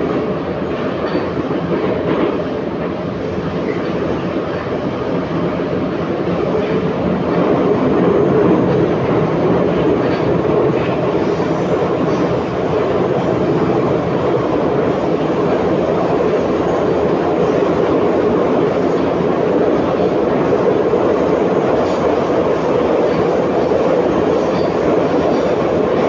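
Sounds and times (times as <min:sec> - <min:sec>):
metro train wheels rumbling on rails: 0:00.0 - 0:26.0.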